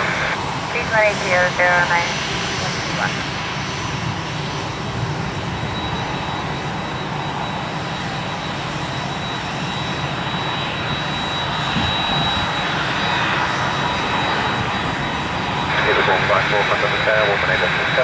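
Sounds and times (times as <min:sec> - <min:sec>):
jet engines with high whine: 0:00.0 - 0:18.0.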